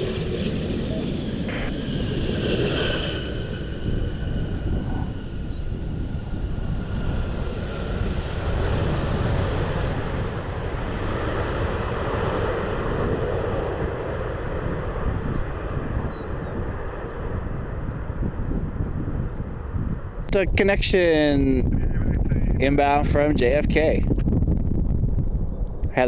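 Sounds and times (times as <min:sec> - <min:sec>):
jet aircraft engines: 0:00.0 - 0:26.0
wind rumble on microphone: 0:00.0 - 0:26.0.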